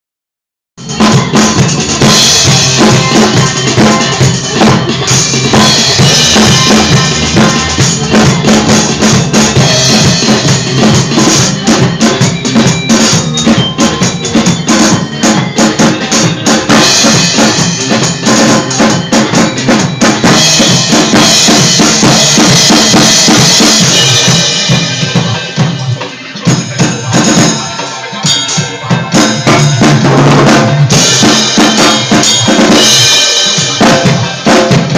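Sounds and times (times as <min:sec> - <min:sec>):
drum kit played with sticks: 0:00.8 - 0:34.9
recorded song: 0:00.8 - 0:34.9.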